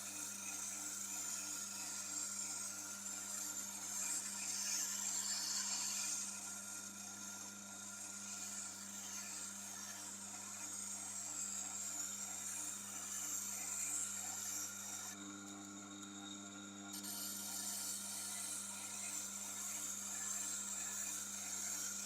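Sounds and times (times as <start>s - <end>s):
knife scraping on grinding wheel: 0.0s - 22.0s
sharpener motor humming: 0.0s - 22.0s.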